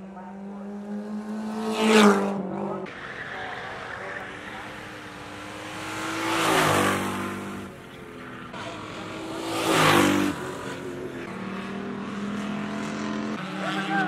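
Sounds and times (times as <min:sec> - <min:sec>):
race cars passing: 0:00.0 - 0:14.0
distant engines running: 0:02.4 - 0:14.0.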